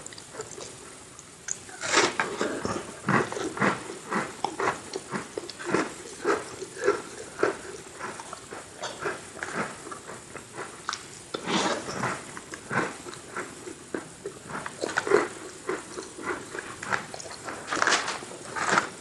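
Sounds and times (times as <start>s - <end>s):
crunchy chewing: 0.0s - 19.0s
biting crunchy cookie: 1.5s - 19.0s.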